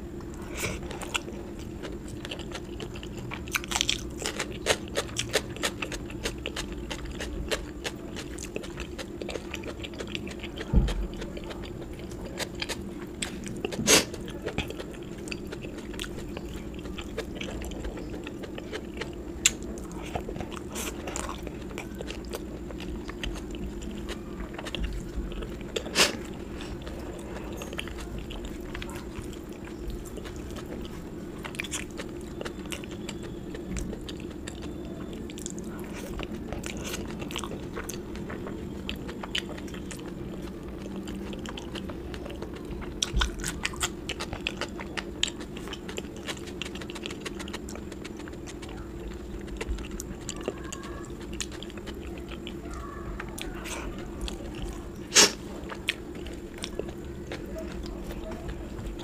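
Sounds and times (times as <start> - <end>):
person chewing food: 0.2 - 59.0
mouth clicks and crunches: 0.3 - 59.0.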